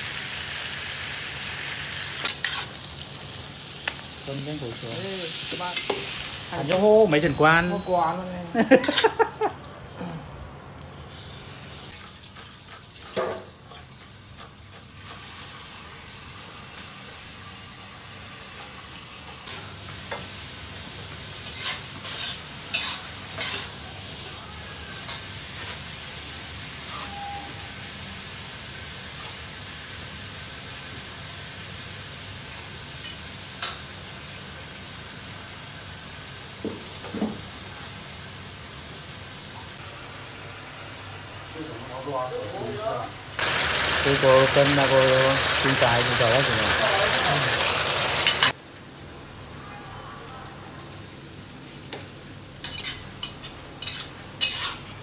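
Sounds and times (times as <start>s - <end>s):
food sizzling: 0.0s - 48.8s, 50.8s - 55.0s.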